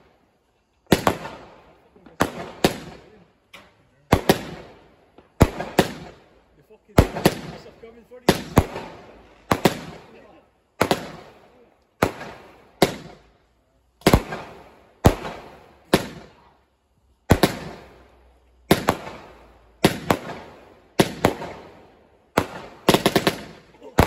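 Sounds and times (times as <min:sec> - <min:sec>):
fireworks bangs: 0:00.8 - 0:13.4, 0:14.0 - 0:16.6, 0:17.2 - 0:24.0.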